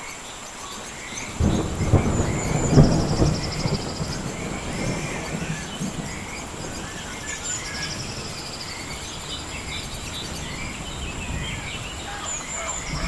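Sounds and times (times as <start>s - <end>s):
bird chirps and calls: 0.2s - 13.0s.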